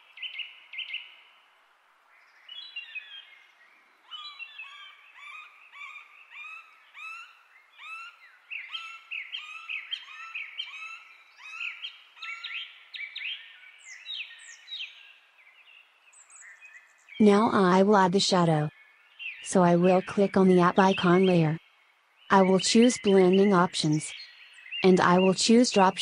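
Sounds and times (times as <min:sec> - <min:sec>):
birds chirping: 0:02.2 - 0:26.0.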